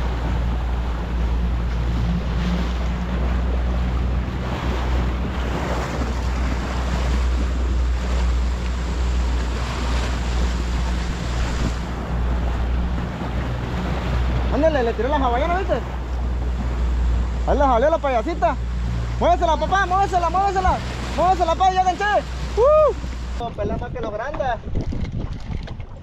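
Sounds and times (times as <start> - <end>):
wind buffeting microphone: 0.0 - 17.5, 22.2 - 26.0
boat engine running: 0.0 - 26.0
water rushing past hull: 0.0 - 26.0.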